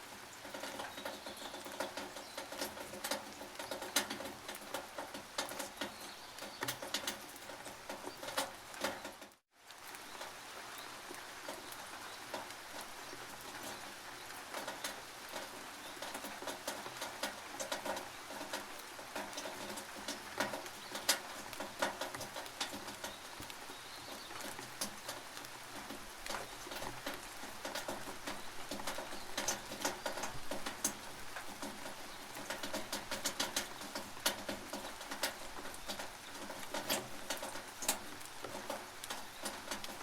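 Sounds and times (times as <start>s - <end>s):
rain pattering on a tin roof: 0.0s - 40.0s.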